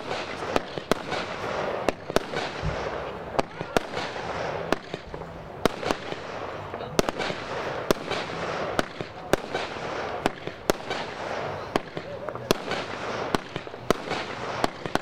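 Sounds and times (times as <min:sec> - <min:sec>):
fireworks bangs and cracks: 0:00.0 - 0:15.0
steady background noise: 0:00.0 - 0:15.0.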